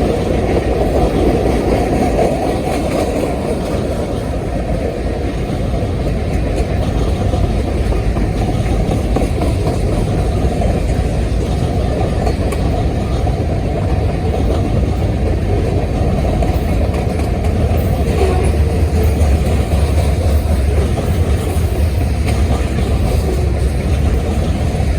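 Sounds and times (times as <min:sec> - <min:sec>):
freight train rumbling past: 0:00.0 - 0:24.9.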